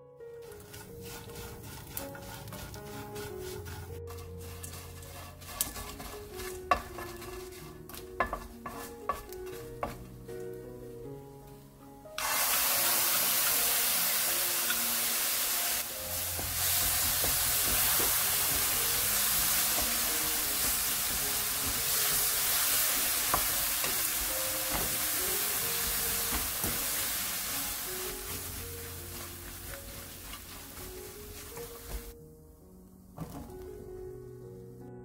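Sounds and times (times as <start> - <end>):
soft music: 0.0 - 35.0
sauce sizzling in a frying pan: 0.4 - 10.1, 12.2 - 32.2.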